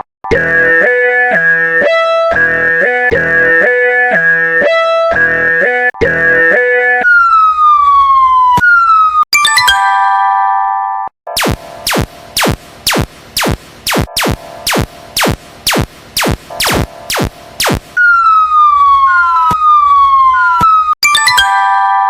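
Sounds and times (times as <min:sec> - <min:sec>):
downward sliding pitched tone: 0:00.3 - 0:09.2, 0:11.4 - 0:21.0
short falling electronic chirps: 0:00.3 - 0:09.6, 0:11.3 - 0:21.2.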